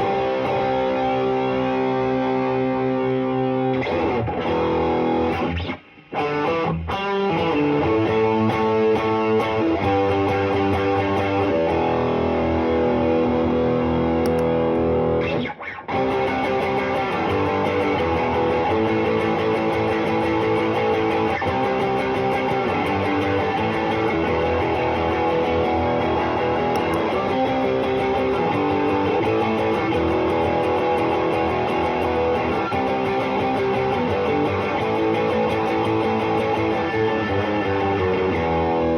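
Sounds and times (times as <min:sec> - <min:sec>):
electric guitar ringing notes: 0:00.0 - 0:38.9.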